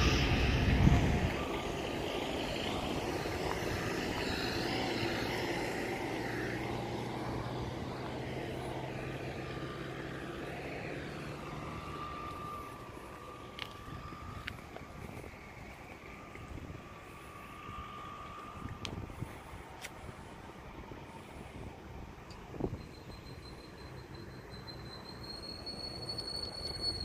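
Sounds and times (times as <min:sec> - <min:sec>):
wind rumble on microphone: 0:00.0 - 0:23.7
motor vehicle traffic drone: 0:00.0 - 0:27.0.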